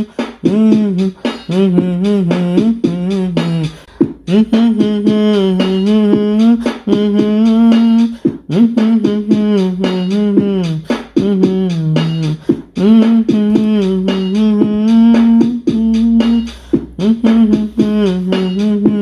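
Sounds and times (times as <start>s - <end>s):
person singing long notes: 0.0s - 19.0s.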